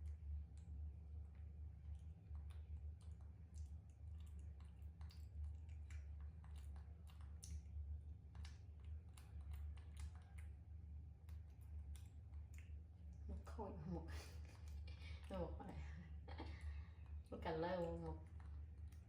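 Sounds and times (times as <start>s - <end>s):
faint irregular clicks: 0.0s - 13.4s, 14.2s - 19.0s
steady low hum: 0.0s - 19.0s.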